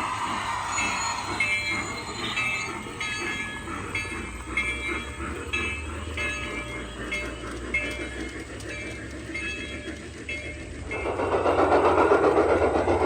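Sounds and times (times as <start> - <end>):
hiss: 0.0 - 13.0
low rumble of model train: 0.0 - 13.0.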